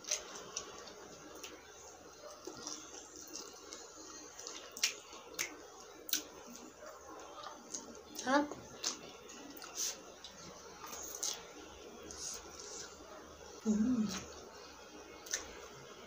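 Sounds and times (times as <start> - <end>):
chewing: 0.0 - 13.0, 15.2 - 15.7.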